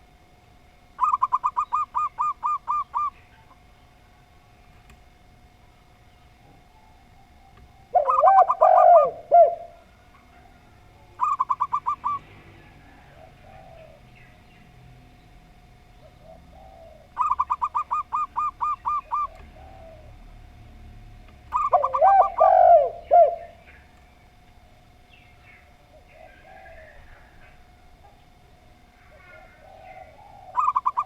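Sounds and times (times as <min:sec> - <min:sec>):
doves cooing: 0:00.0 - 0:04.4, 0:05.1 - 0:31.0.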